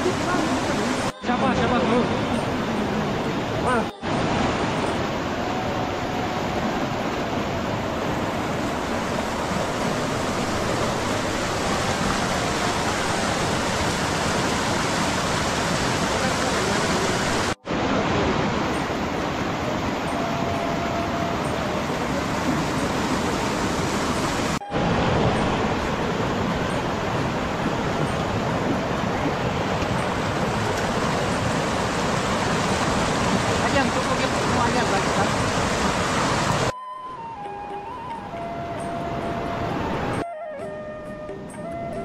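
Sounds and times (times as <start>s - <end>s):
river rushing over rapids: 0.0s - 40.6s.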